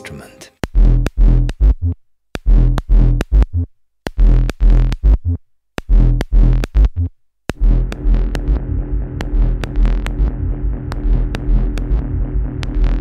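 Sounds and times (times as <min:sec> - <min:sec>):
percussive synth notes: 0:00.6 - 0:13.0.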